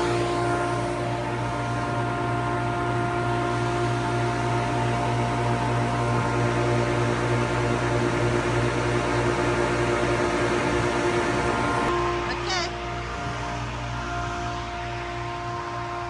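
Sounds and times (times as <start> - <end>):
grain dryer fan humming: 0.0 - 16.0.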